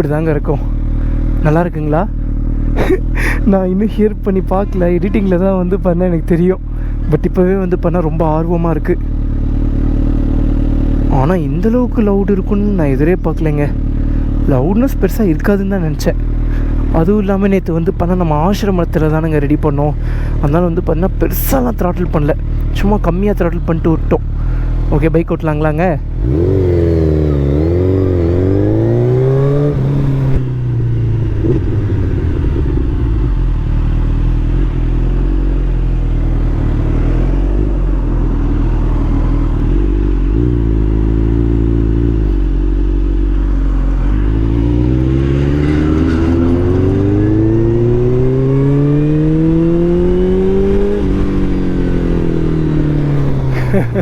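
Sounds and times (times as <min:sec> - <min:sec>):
motorcycle engine revving: 0:07.7 - 0:54.0.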